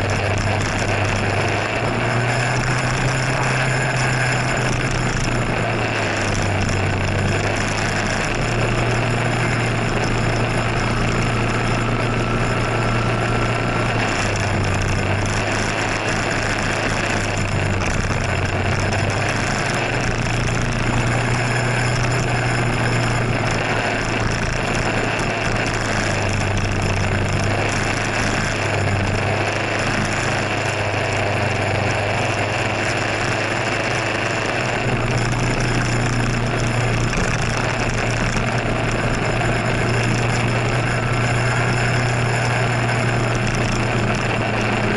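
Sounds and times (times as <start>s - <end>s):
scooter engine running: 0.0s - 44.9s.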